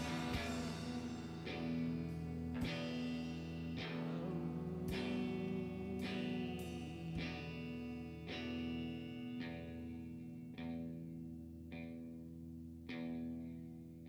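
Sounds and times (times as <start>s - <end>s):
rock music with electric guitar: 0.0s - 13.9s.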